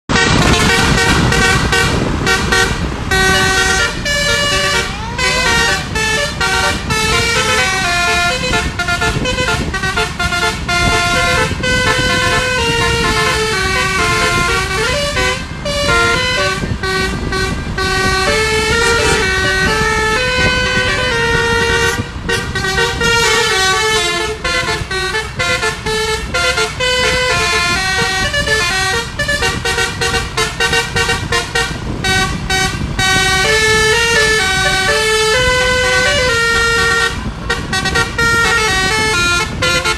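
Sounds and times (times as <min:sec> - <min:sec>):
low rumble of bus: 0:00.1 - 0:39.9
musical bus horn playing tune: 0:00.1 - 0:39.9.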